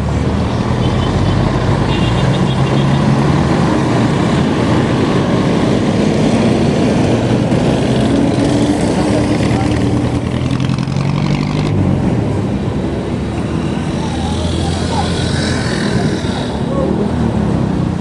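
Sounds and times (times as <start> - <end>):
road and wind noise: 0.0 - 18.0
vehicle engine humming: 0.0 - 18.0.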